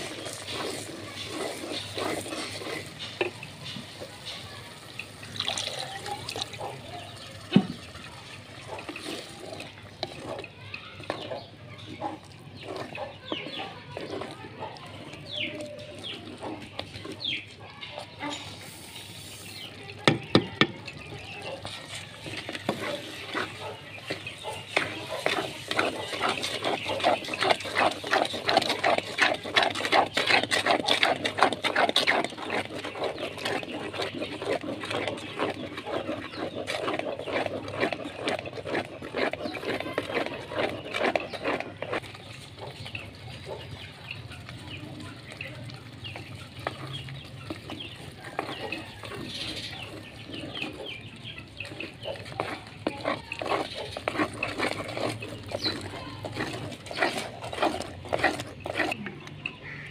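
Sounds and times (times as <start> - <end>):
wooden spoon scraping pot: 0.0 - 59.9.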